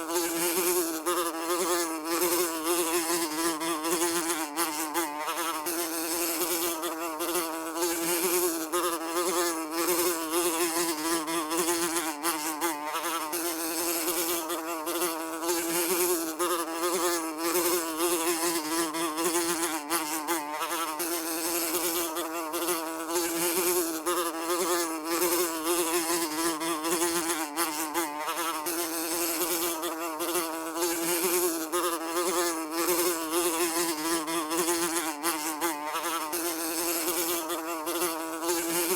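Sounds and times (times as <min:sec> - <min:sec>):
housefly buzzing: 0:00.0 - 0:38.9.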